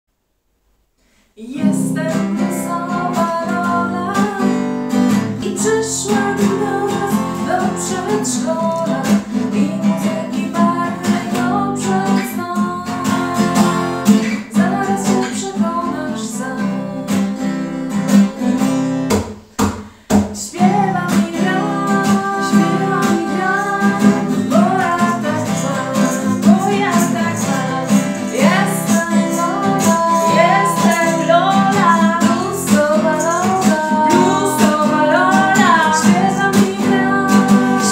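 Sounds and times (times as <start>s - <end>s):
woman singing: 1.4s - 18.9s, 20.1s - 37.9s
acoustic guitar strumming: 1.6s - 37.9s.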